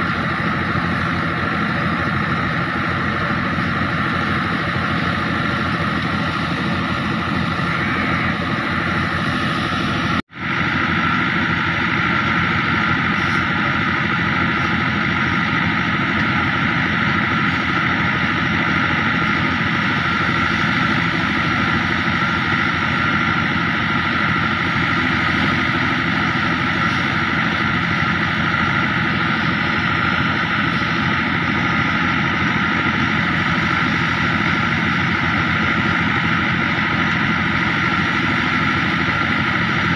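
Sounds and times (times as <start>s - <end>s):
diesel tractor engine running: 0.0s - 39.9s
thresher drum whirring and rattling: 0.0s - 39.9s.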